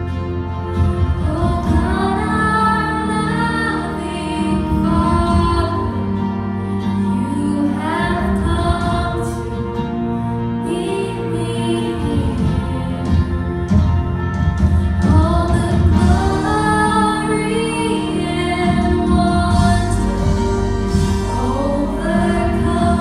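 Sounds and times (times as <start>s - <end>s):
acoustic guitar: 0.0s - 23.0s
bass: 0.0s - 23.0s
violins: 0.0s - 23.0s
woman singing: 0.6s - 13.7s, 14.8s - 23.0s.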